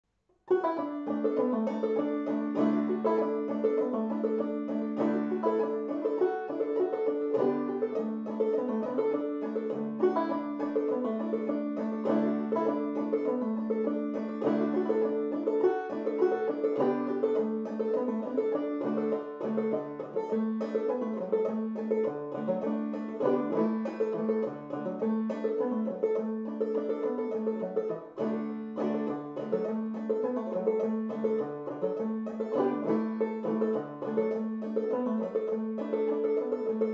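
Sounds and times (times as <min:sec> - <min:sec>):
banjo playing old-time tune: 0:00.5 - 0:36.9.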